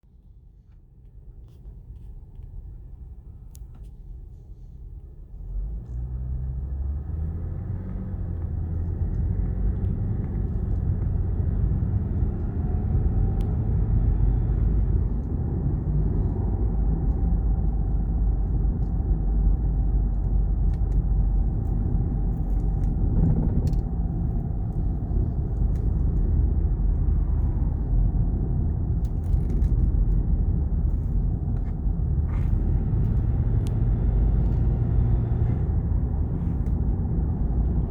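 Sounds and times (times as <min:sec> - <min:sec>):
car road and drivetrain rumble: 0:00.1 - 0:37.9
faint drivetrain whine: 0:05.6 - 0:37.9.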